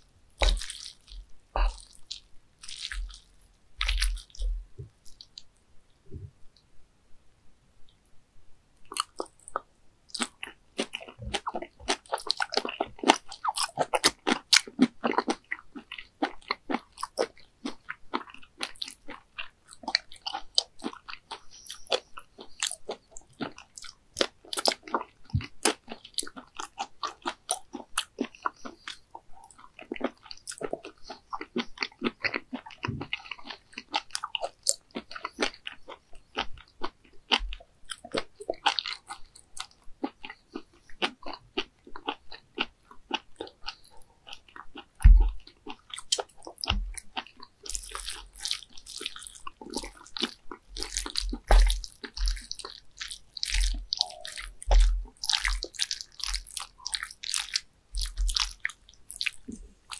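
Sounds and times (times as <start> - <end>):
mouth clicks and smacks chewing: 0.3 - 5.6, 8.8 - 59.9.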